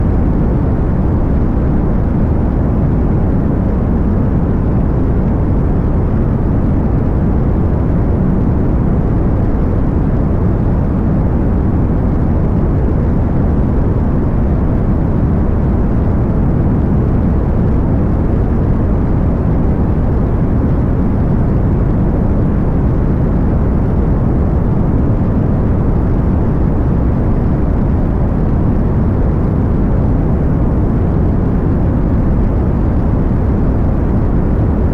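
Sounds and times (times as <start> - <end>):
airplane engine droning: 0.0 - 34.9.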